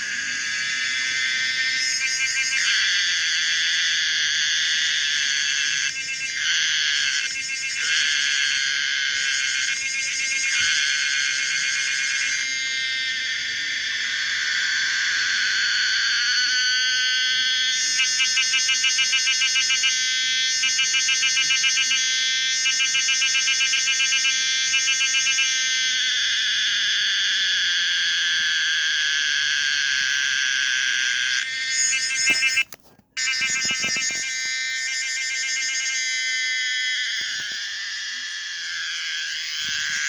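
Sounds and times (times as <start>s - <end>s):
shrill cicada-like buzzing drone: 0.0s - 40.0s.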